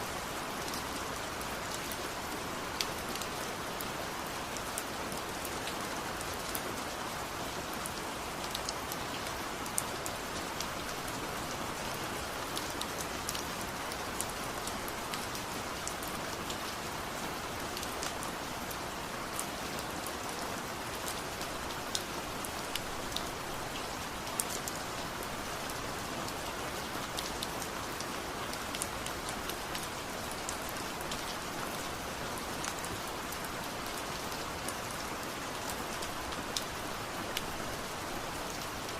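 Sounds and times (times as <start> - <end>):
rain on hard surfaces: 0.0 - 38.9.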